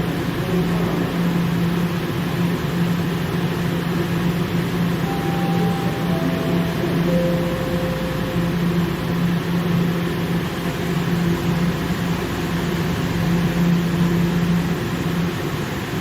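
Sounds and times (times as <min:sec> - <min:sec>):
subway train humming and rumbling: 0:00.0 - 0:16.0.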